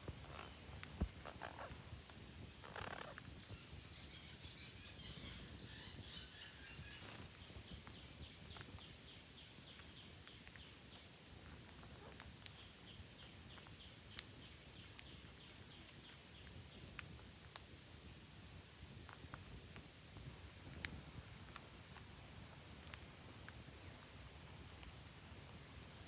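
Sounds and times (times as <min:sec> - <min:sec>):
low hiss: 0:00.0 - 0:26.0.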